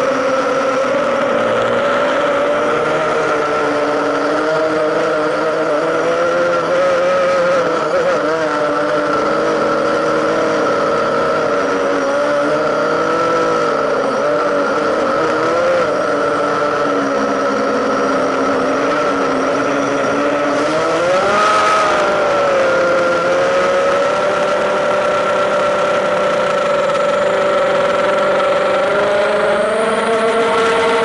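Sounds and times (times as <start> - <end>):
drone motors and propellers whining: 0.0 - 31.0.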